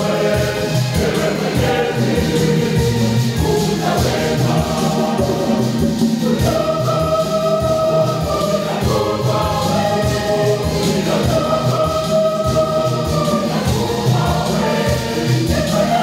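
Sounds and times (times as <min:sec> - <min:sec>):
choir singing in harmony: 0:00.0 - 0:16.0
conga drum beat: 0:00.0 - 0:16.0.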